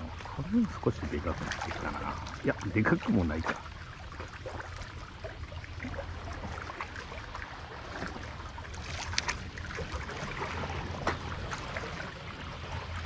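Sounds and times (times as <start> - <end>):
seawater sloshing among concrete blocks: 0.0 - 13.0.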